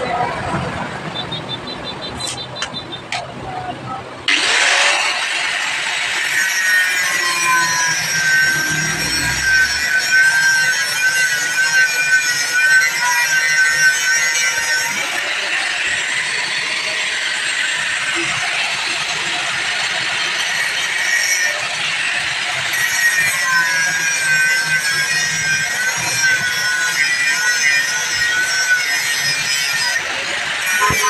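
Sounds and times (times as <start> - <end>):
angle grinder cutting metal: 4.3 - 31.0.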